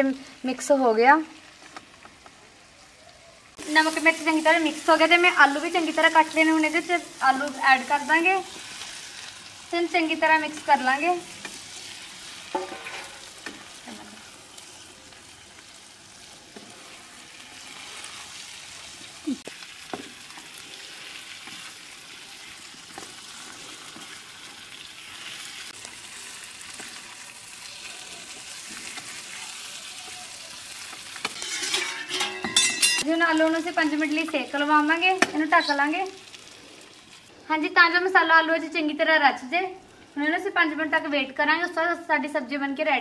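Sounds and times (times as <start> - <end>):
potatoes sizzling in oil: 0.0 - 43.0.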